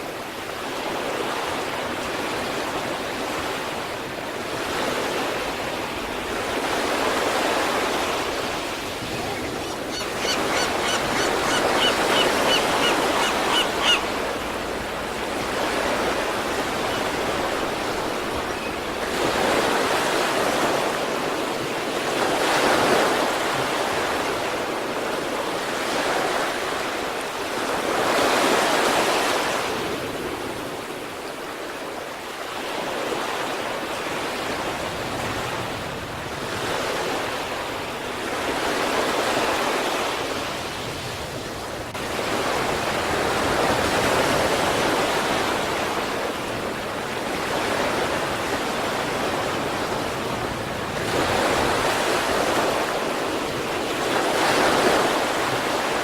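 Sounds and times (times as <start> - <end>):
sea waves breaking ashore: 0.0 - 56.0.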